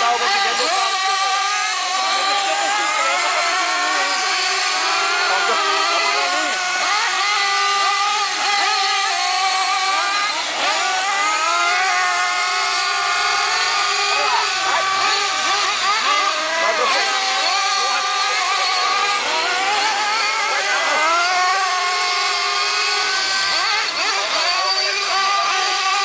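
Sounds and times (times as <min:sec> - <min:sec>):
model car engines high-revving: 0:00.0 - 0:26.0.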